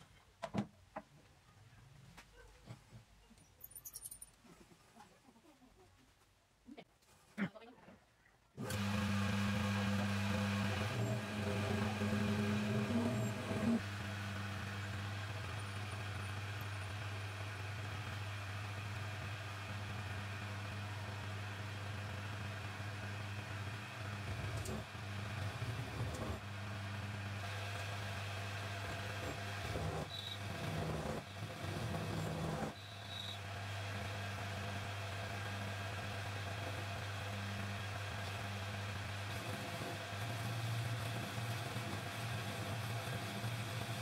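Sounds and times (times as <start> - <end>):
metal lathe motor humming: 8.6 - 44.0.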